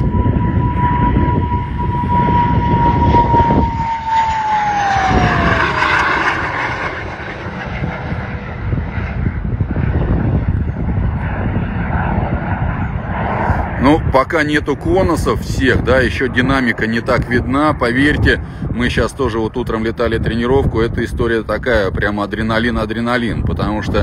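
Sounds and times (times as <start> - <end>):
jet passing with roar and whine: 0.0 - 24.0.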